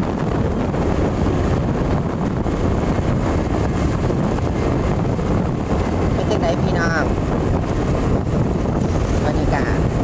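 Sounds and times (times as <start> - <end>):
motorcycle engine rumble: 0.0 - 10.0
wind rushing over microphone: 0.0 - 10.0.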